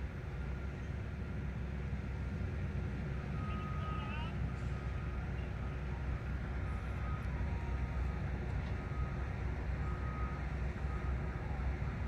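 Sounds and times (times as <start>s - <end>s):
diesel locomotives idling: 0.0s - 12.0s.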